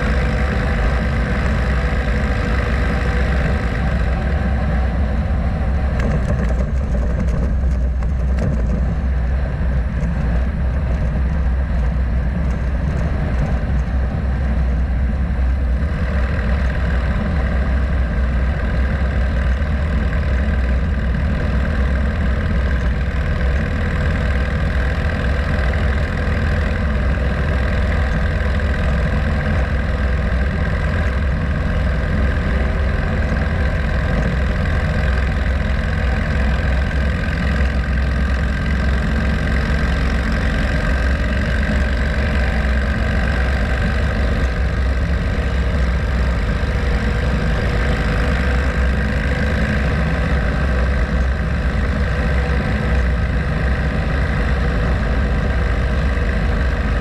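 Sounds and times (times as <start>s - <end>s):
motorcycle engine rumbling: 0.0s - 57.0s
wind and tyre noise: 0.0s - 57.0s.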